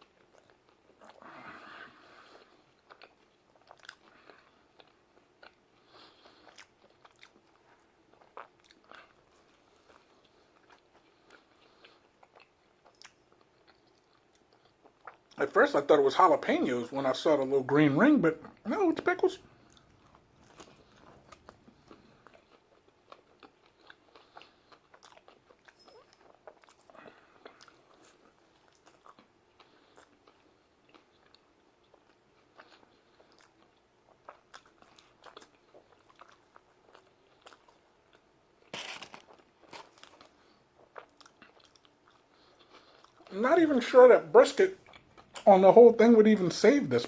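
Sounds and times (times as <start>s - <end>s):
chewing crunchy pizza: 0.0s - 16.8s, 17.4s - 47.0s.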